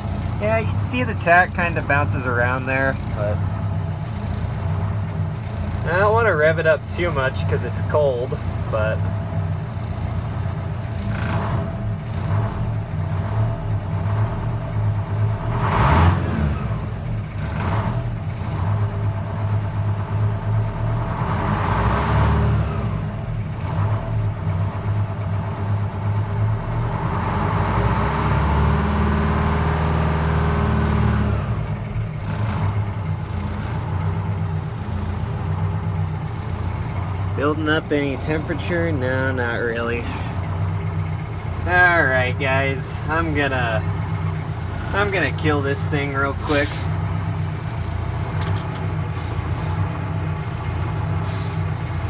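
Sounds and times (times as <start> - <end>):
diesel engine idling: 0.0 - 52.0
engine revving: 0.0 - 52.0.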